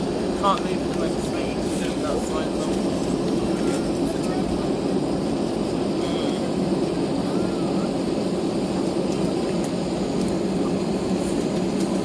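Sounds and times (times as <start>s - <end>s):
aircraft cabin engine noise: 0.0s - 12.0s.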